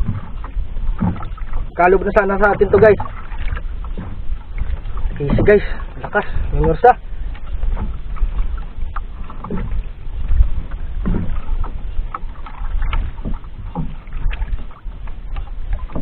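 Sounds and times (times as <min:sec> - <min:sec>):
short splashes: 0:00.0 - 0:16.0
water lapping against boat hull: 0:00.0 - 0:16.0
wind rumbling on microphone: 0:00.0 - 0:16.0.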